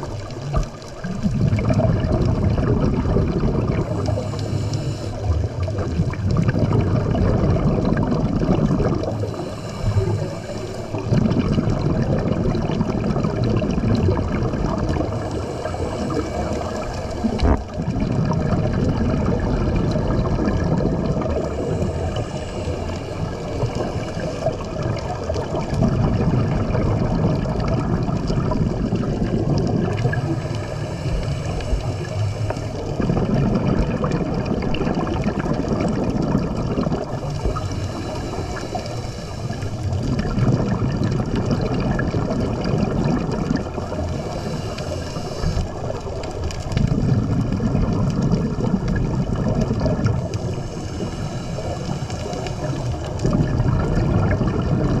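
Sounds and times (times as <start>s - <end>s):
regulator exhaling bubbles: 0.0s - 55.0s.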